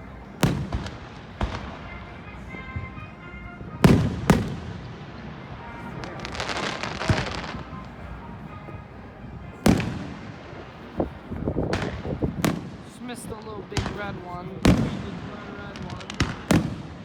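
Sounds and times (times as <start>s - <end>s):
firework crackling: 0.0s - 17.0s
firework bangs: 0.3s - 3.1s, 3.7s - 8.3s, 9.4s - 17.0s.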